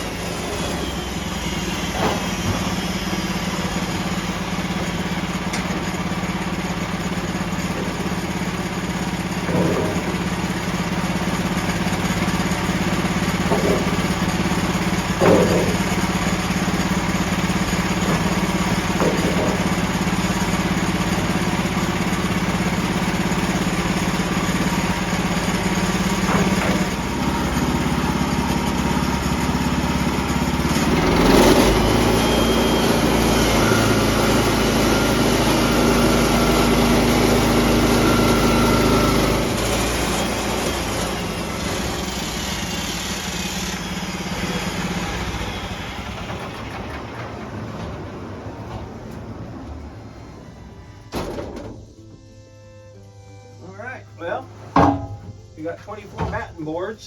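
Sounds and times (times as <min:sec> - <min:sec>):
sawmill engine cutting boards: 0:00.0 - 0:57.0.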